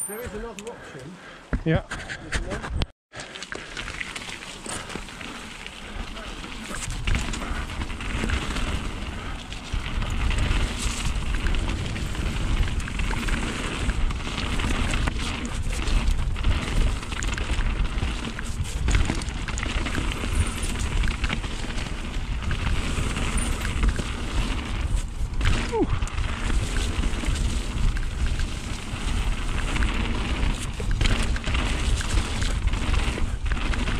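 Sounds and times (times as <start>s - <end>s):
bike tyre noise: 0.0s - 33.9s
wind buffeting microphone: 5.0s - 33.9s.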